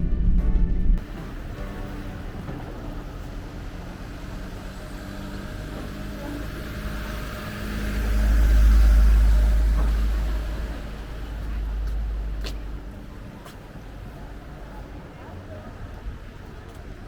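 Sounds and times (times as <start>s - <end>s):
deep low rumble: 0.0s - 15.1s
motorhome engine and road hum: 0.0s - 17.0s.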